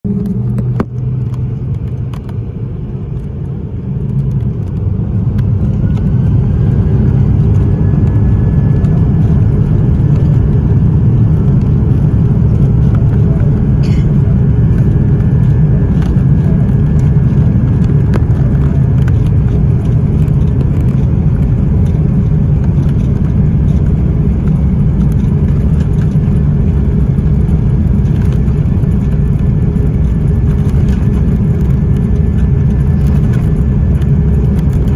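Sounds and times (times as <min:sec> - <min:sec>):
engine whine rising: 0:00.0 - 0:34.9
jet engines rumbling: 0:00.0 - 0:34.9.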